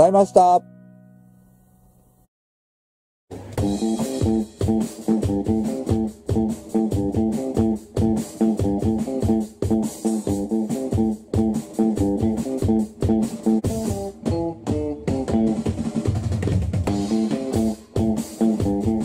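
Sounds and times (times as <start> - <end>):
guitar: 0.0 - 2.3, 3.3 - 19.0
bass guitar: 3.3 - 19.0
drum kit beat: 3.3 - 19.0.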